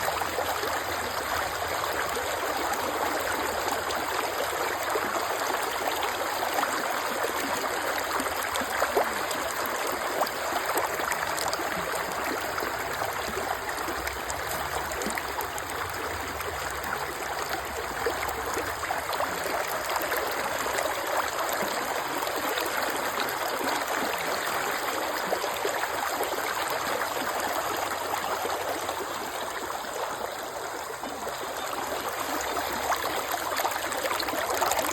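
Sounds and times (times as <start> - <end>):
creek water flowing: 0.0 - 34.9.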